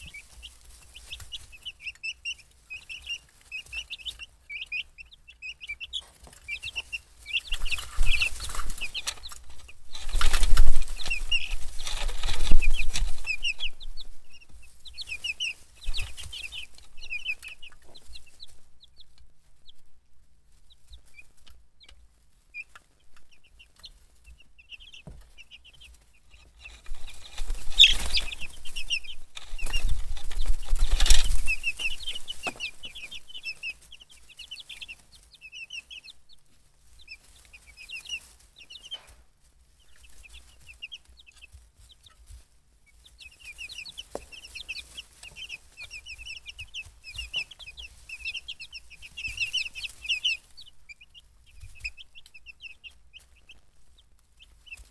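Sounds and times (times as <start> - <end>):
wing flapping and scuffling: 0.0 - 1.8, 6.0 - 19.3, 22.3 - 35.3, 36.0 - 54.9
chicks peeping: 0.0 - 54.9.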